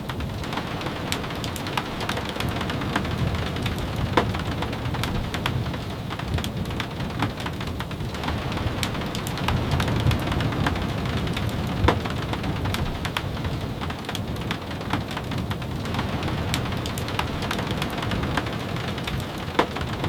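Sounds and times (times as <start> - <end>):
steady rain falling: 0.0 - 20.0
ticks of single raindrops: 0.0 - 20.0.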